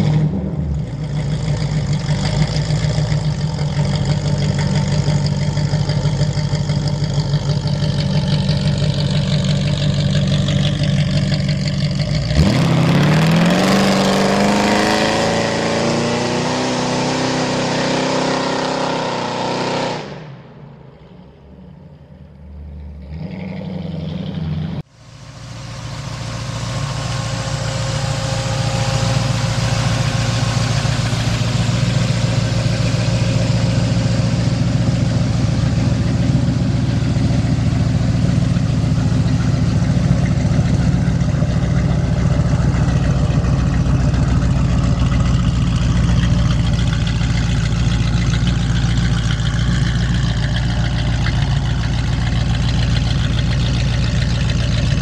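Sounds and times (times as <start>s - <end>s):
car engine idling loudly: 0.0s - 18.4s, 24.4s - 55.0s
car engine driving: 0.0s - 55.0s.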